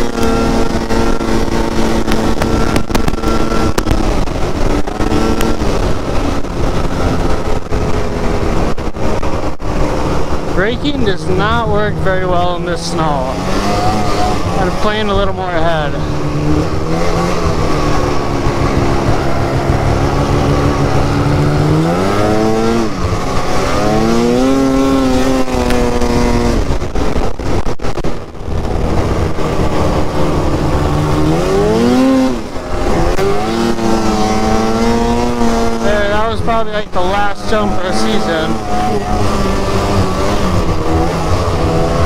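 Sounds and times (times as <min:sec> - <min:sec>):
snowmobile engine under throttle: 0:00.0 - 0:42.0.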